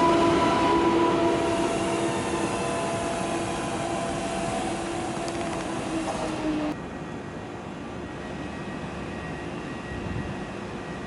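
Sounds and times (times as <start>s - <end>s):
electric train running hum: 0.0s - 11.0s
train wheel and running noise: 1.2s - 11.0s
electric train drive whine: 1.4s - 11.0s.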